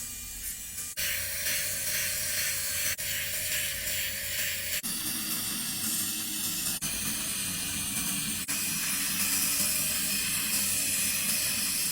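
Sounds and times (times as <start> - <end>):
dental equipment air hiss: 0.0 - 11.9.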